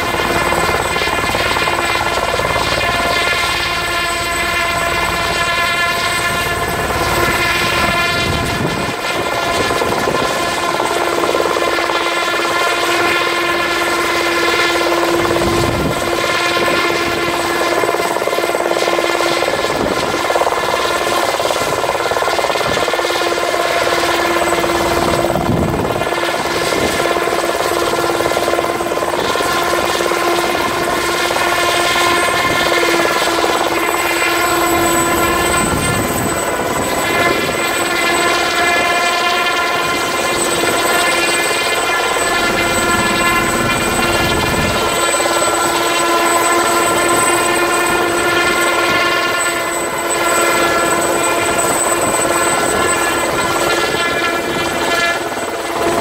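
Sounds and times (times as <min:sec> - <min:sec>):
helicopter engine and rotors drone: 0:00.0 - 0:56.0.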